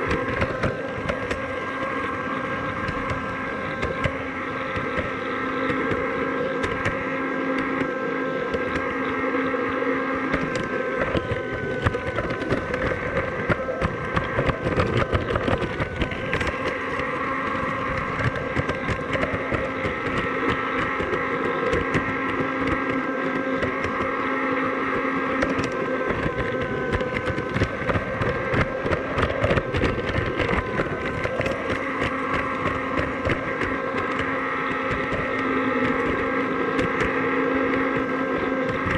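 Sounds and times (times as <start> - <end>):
model tram motor whine: 0.0 - 38.9
wheels rattling and clicking on track: 0.0 - 38.9.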